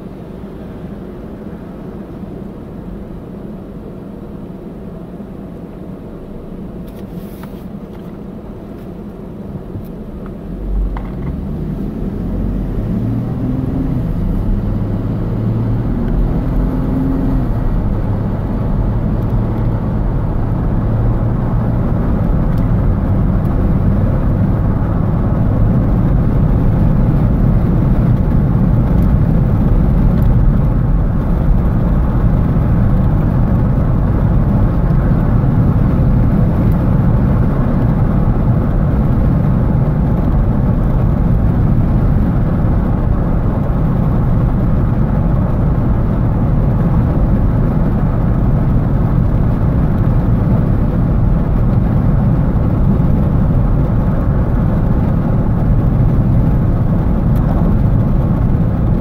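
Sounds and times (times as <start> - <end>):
road noise: 0.0 - 59.0
car engine accelerating: 9.2 - 59.0.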